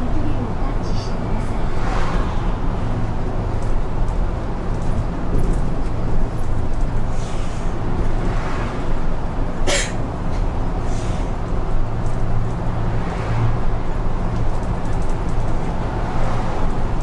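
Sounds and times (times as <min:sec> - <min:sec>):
bus engine drone: 0:00.0 - 0:17.0
road and tyre noise: 0:00.0 - 0:17.0.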